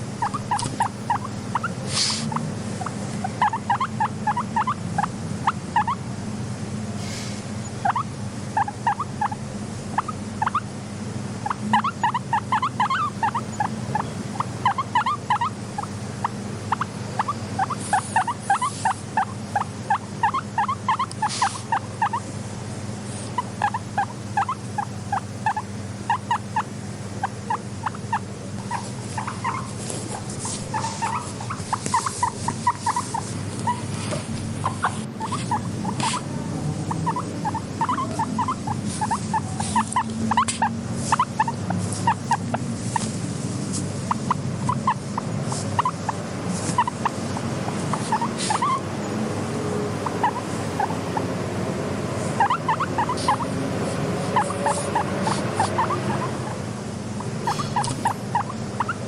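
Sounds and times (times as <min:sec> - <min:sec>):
guinea pig squeaking: 0:00.0 - 0:06.1, 0:07.6 - 0:10.7, 0:11.4 - 0:22.3, 0:23.1 - 0:51.4, 0:52.2 - 0:59.0
steady low hum: 0:00.0 - 0:59.0.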